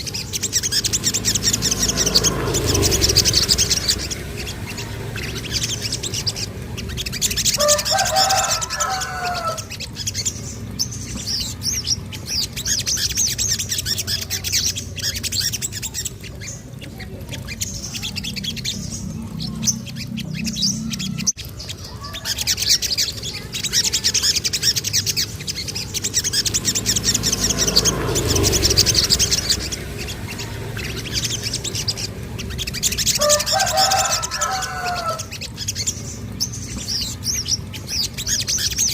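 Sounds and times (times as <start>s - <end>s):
lower warbling bird call: 0.0s - 38.9s
songbird chirping in high trills: 0.0s - 38.9s.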